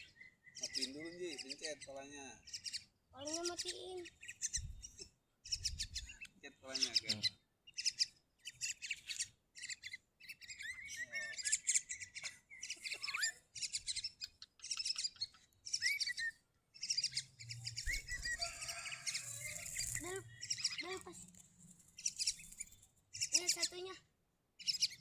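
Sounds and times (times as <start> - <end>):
pet bird chattering: 0.1 - 24.0, 24.6 - 25.0.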